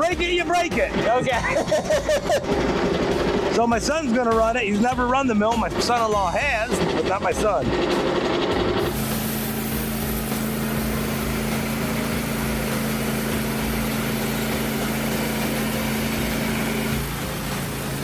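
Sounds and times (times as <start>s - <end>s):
small gasoline engine running: 0.1s - 18.0s.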